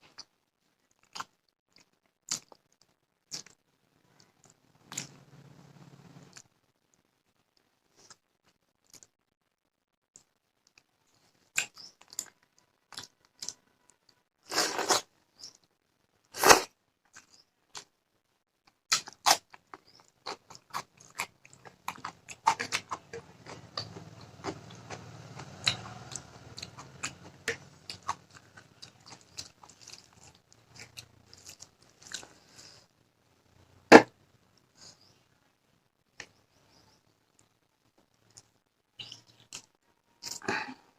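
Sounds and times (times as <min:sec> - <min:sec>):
chewing and crunching food: 0:00.0 - 0:09.2, 0:10.1 - 0:17.9, 0:18.6 - 0:33.0, 0:37.3 - 0:40.9.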